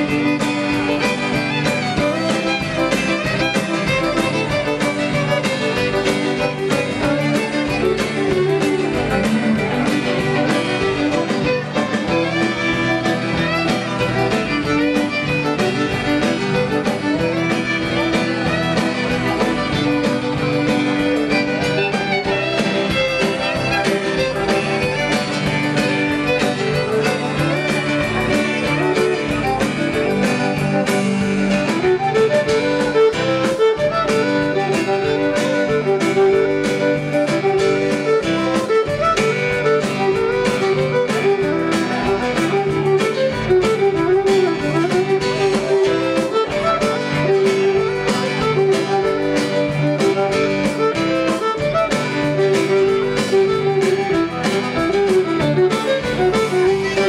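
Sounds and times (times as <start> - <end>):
fiddle playing a tune: 0.0 - 57.0
guitar: 0.0 - 57.0
steady drum beat: 0.0 - 57.0.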